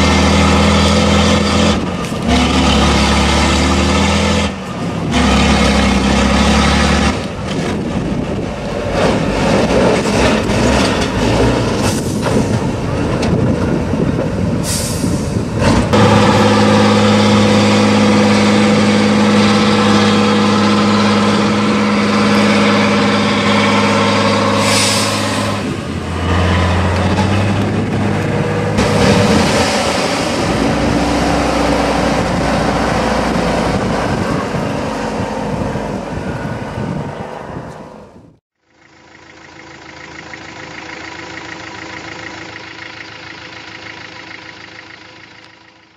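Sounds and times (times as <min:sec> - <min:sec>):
truck diesel engine labouring: 0:00.0 - 0:45.9.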